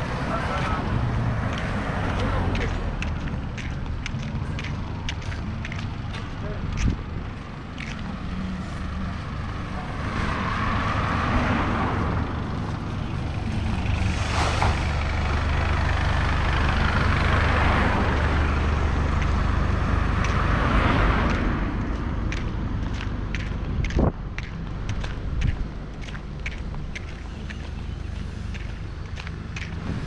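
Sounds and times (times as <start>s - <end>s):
vehicle engine rumbling: 0.0s - 30.0s
vehicles passing: 0.0s - 30.0s.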